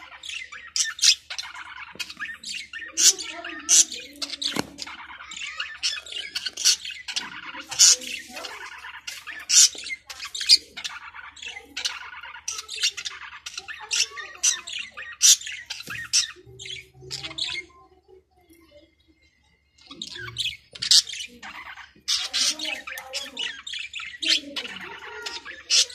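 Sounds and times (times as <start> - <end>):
budgerigar chattering: 0.0 - 17.7, 19.8 - 25.9.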